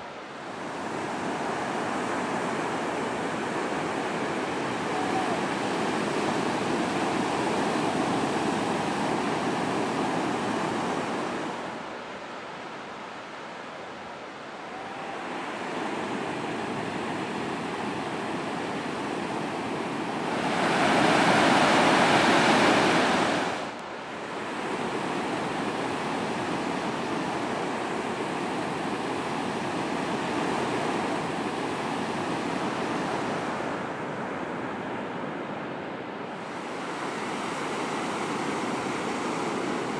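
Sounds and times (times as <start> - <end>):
ocean surf breaking: 0.0 - 35.5, 36.2 - 39.9.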